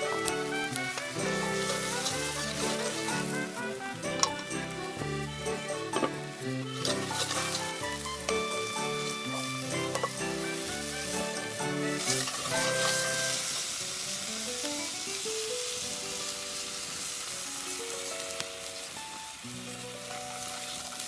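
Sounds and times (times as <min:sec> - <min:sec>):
background music melody: 0:00.0 - 0:21.0
food sizzling in oil: 0:00.0 - 0:21.0.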